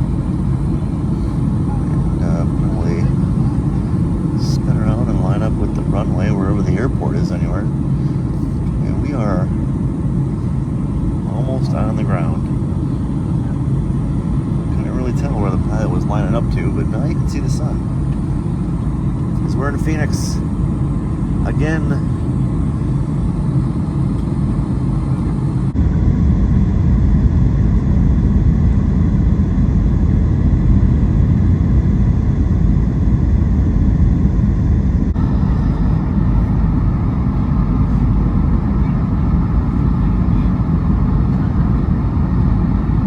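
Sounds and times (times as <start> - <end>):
jet engine rumble in cabin: 0.0 - 43.0.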